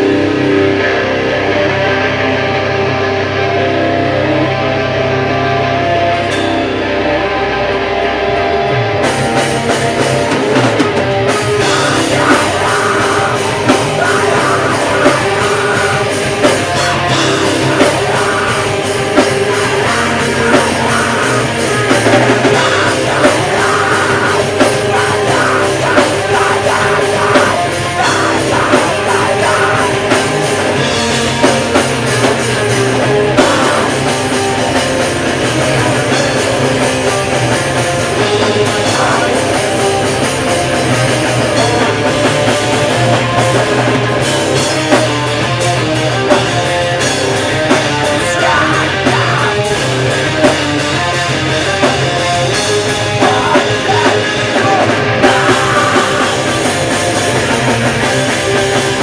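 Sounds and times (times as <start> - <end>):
distorted electric guitars: 0.0 - 59.0.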